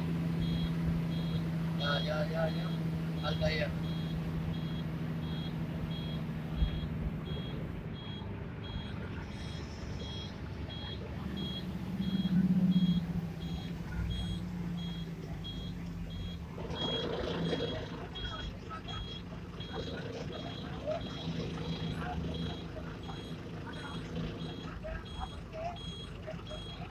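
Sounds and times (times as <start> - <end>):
bus engine running: 0.0 - 26.9
high electronic beeps: 0.4 - 26.8.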